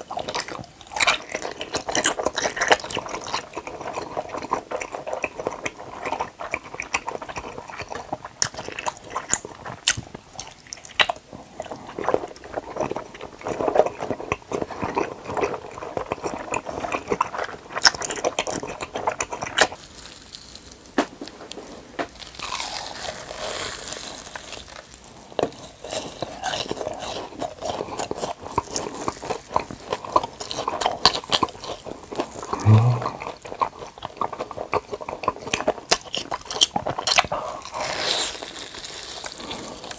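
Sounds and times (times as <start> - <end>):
crunchy bites and chewing: 0.0 - 39.9
wet squishy chewing: 0.0 - 39.9.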